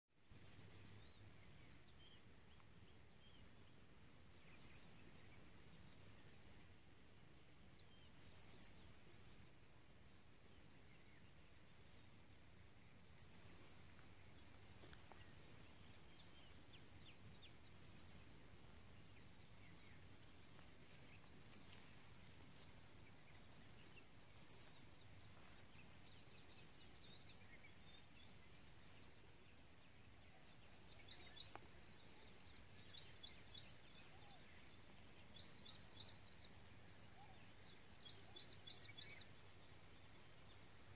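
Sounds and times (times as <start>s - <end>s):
faint background hiss: 0.1s - 40.9s
small birds calling: 0.4s - 9.6s, 13.2s - 40.9s.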